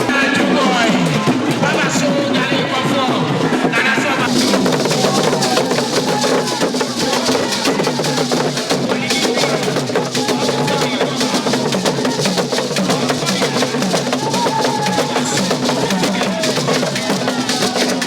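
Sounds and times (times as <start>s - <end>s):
drum-led music: 0.0s - 18.0s.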